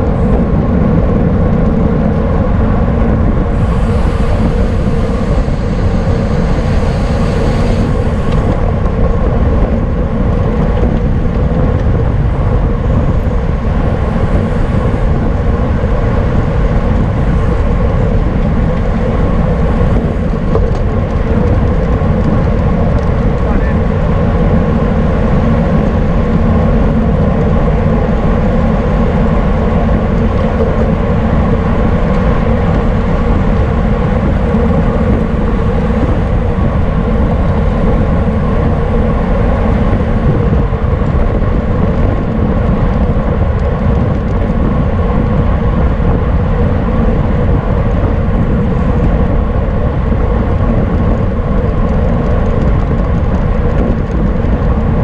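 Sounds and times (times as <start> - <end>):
road noise hum: 0.0 - 55.0
wind rushing over microphone: 0.0 - 55.0.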